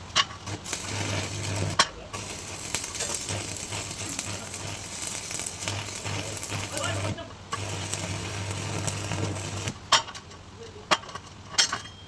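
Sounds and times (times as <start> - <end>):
welding machine hum: 0.2 - 9.9
welding arc crackling: 0.2 - 10.0.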